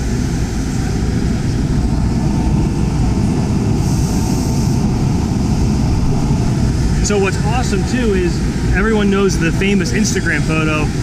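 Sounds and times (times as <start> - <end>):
machine rumble: 0.0 - 11.0.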